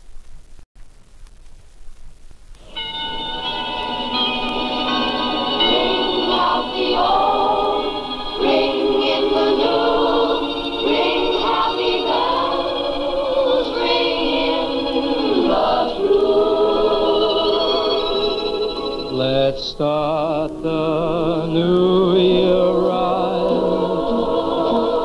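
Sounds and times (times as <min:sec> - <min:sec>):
vocal group singing harmony: 0:03.4 - 0:25.0.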